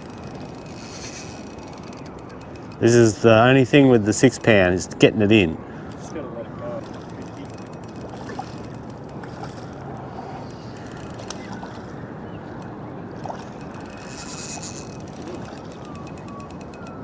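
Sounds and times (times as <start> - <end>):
fishing reel drag clicking: 0.0 - 5.0, 5.8 - 6.1, 6.8 - 17.0
water noise: 0.0 - 17.0.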